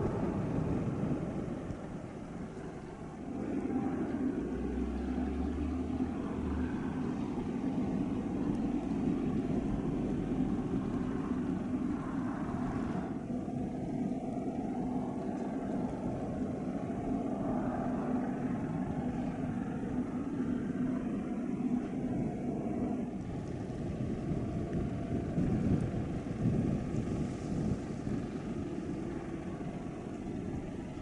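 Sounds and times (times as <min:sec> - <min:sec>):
ship engines droning: 0:00.0 - 0:31.0.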